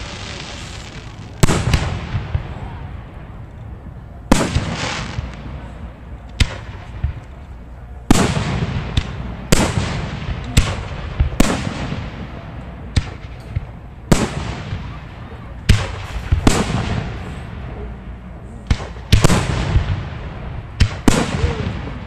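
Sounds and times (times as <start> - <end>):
fireworks bursting with bangs: 0.0 - 3.6, 4.2 - 22.0.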